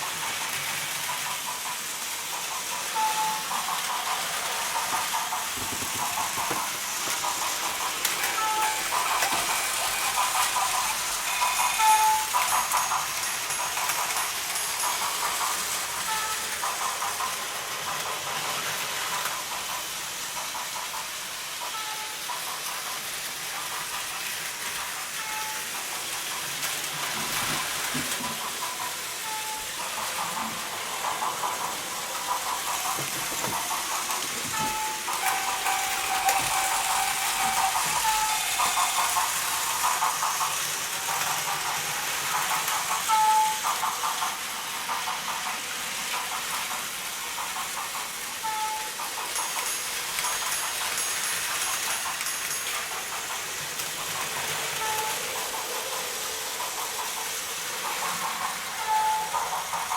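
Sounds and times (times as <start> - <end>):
toy trains whirring on track: 0.0 - 59.9.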